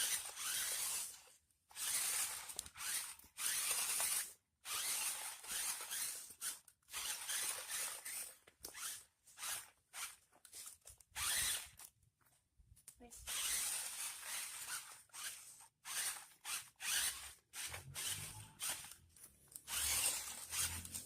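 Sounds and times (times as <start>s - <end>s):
toy car motor whirring: 0.0s - 11.9s, 13.2s - 21.0s.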